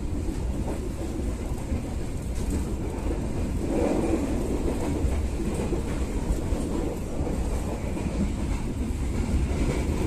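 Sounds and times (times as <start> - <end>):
train rumble inside coach: 0.0 - 10.0.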